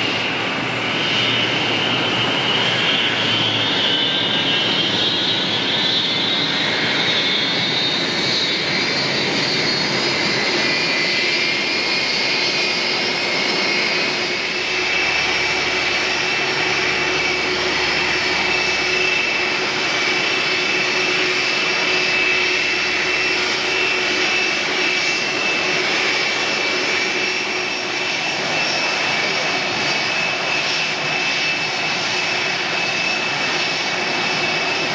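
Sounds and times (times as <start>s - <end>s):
jet engines roaring and whining: 0.0s - 34.9s.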